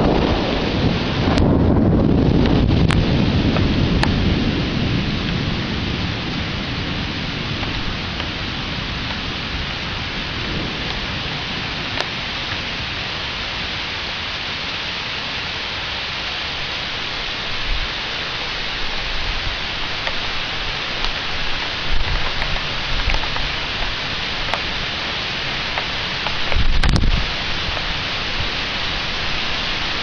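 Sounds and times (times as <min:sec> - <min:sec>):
low thunder rumble: 0:00.0 - 0:14.4, 0:16.9 - 0:30.0
heavy rain: 0:00.0 - 0:30.0.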